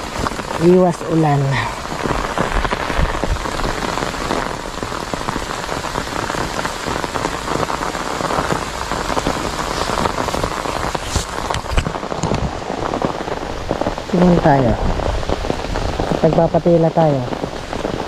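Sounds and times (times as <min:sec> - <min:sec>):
close raindrops striking: 0:00.0 - 0:18.0
steady rain falling: 0:00.0 - 0:18.0.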